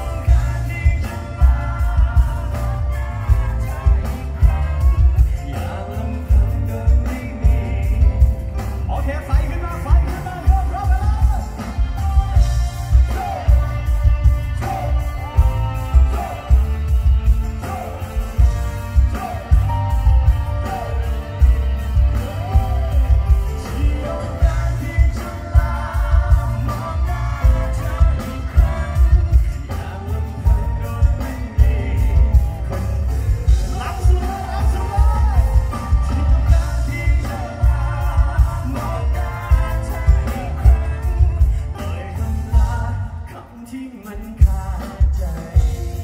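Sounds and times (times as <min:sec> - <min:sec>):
live band music: 0:00.0 - 0:46.0
man singing: 0:00.0 - 0:46.0.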